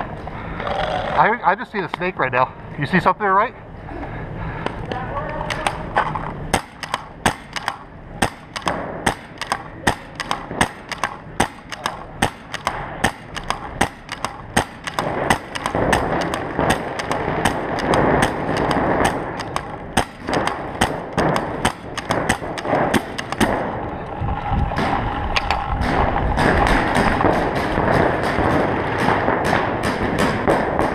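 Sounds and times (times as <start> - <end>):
paintball markers firing: 5.3 - 24.0, 24.7 - 30.9.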